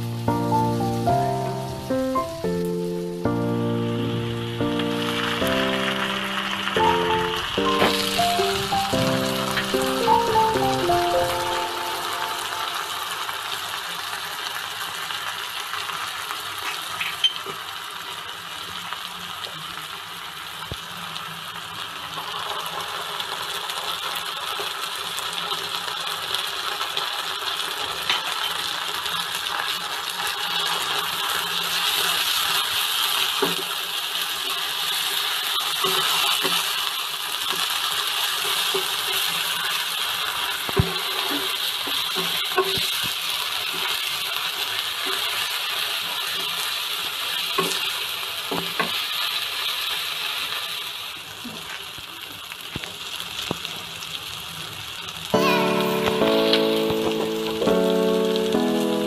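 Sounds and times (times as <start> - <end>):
vegetables sizzling in a wok: 0.0 - 59.0.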